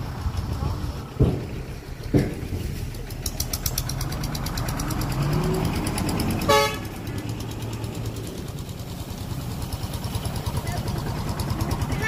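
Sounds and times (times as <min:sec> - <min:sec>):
heavy diesel engine revving: 0:00.0 - 0:12.0.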